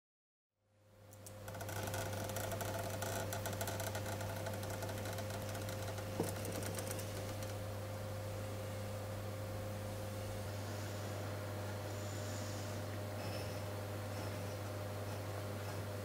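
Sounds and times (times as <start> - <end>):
electrical hum: 0.8 - 16.0.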